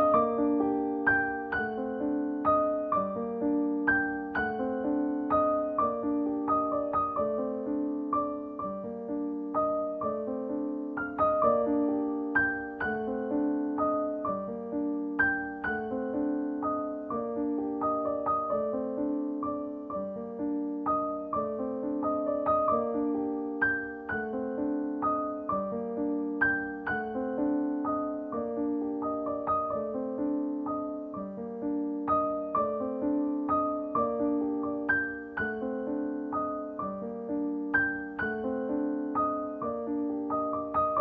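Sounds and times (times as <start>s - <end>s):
gentle piano music: 0.0s - 41.0s.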